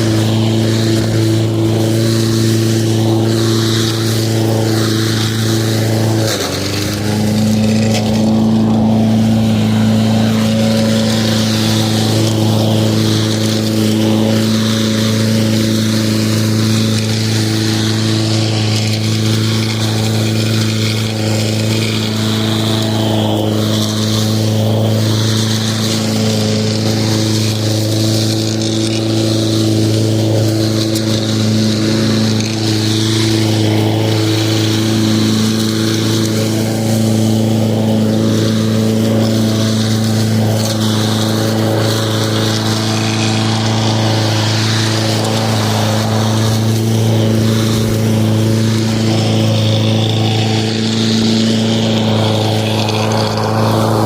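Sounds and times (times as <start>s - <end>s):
lawn mower running: 0.0s - 54.0s.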